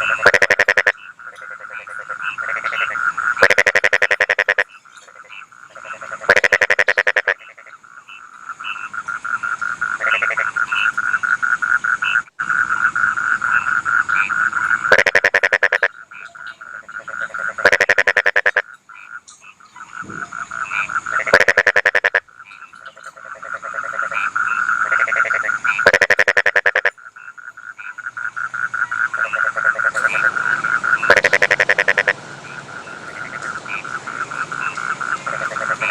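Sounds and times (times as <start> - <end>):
frog chorus trilling: 0.0 - 35.9
loud pulsed frog croaks: 0.0 - 35.9.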